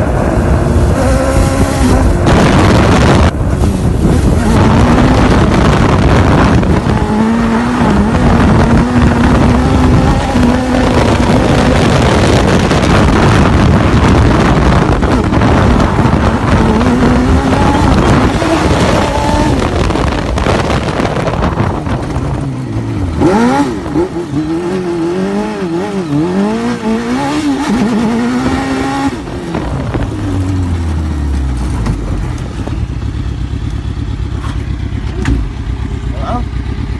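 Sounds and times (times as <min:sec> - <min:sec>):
heavy rushing noise: 0:00.0 - 0:36.9
vehicle engine revving: 0:00.0 - 0:36.9.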